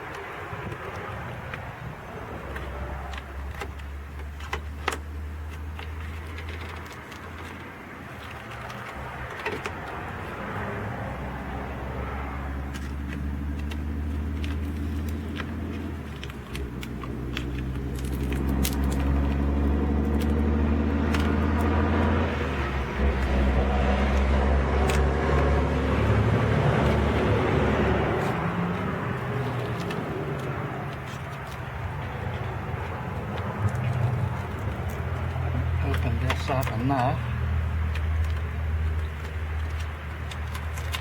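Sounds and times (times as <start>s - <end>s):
low engine hum: 0.0s - 41.0s
light clicks and rattles: 2.4s - 10.7s, 12.6s - 23.4s, 26.7s - 41.0s.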